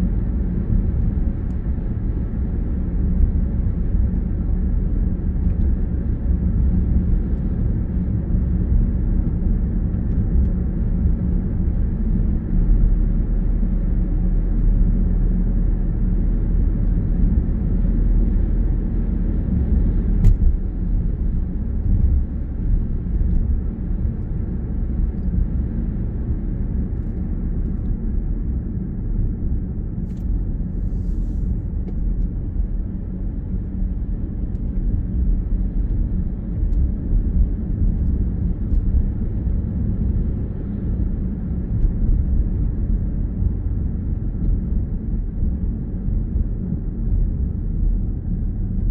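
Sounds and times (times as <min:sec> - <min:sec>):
car interior road rumble: 0:00.0 - 0:48.9.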